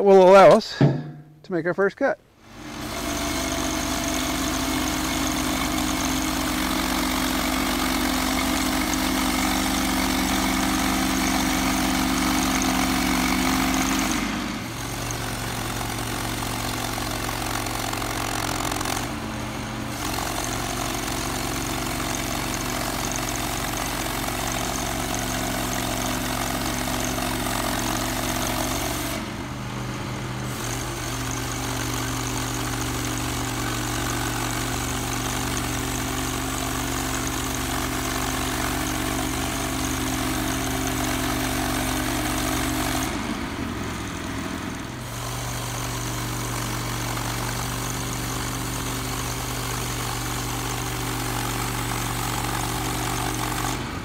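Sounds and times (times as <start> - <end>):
gas engine running under load: 2.4 - 54.0.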